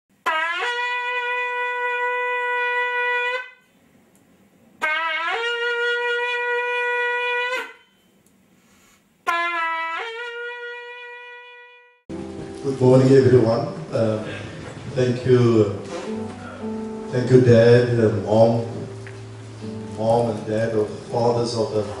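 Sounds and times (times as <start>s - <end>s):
horn blasts: 0.2s - 3.7s, 4.8s - 8.2s, 9.2s - 22.0s.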